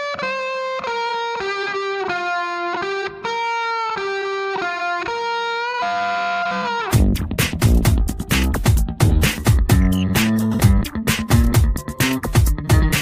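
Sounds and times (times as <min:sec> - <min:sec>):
instrumental melody of held notes: 0:00.1 - 0:13.0.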